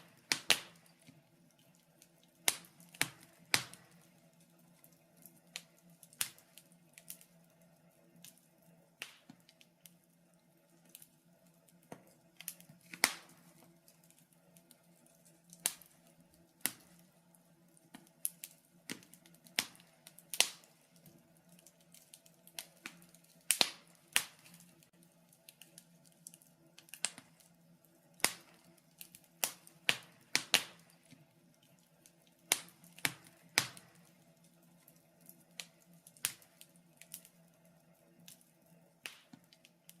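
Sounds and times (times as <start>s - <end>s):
faint steady hum: 0.0s - 40.0s
wood fire crackling: 0.0s - 40.0s.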